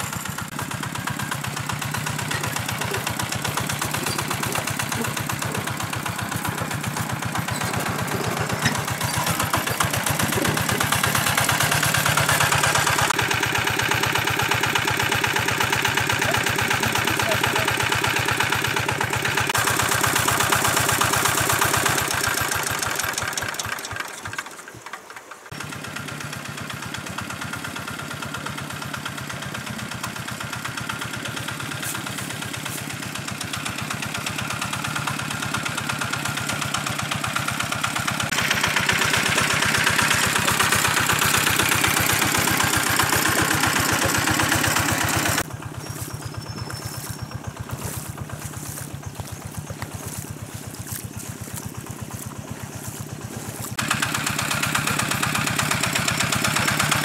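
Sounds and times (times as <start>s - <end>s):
engine-driven water pump running: 0.0s - 57.0s.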